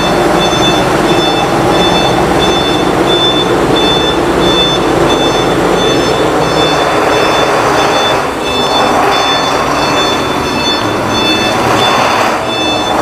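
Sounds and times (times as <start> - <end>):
diesel truck engine running: 0.0 - 13.0
electronic warning beeper: 0.0 - 13.0.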